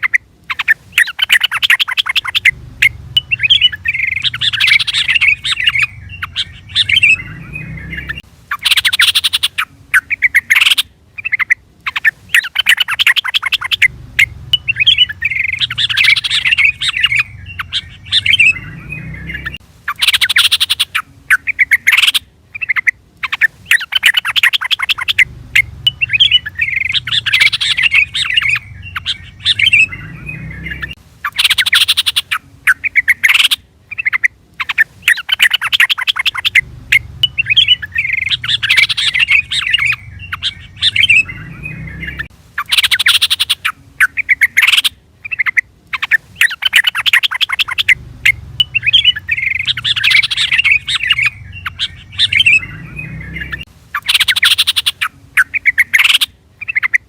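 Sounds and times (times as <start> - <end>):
bird chattering chirps: 0.0 - 57.0.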